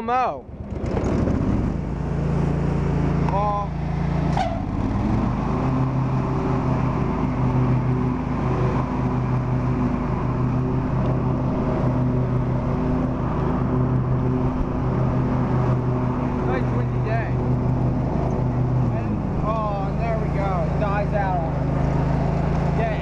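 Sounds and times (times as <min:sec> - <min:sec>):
riding lawn mower engine running: 0:00.0 - 0:23.0.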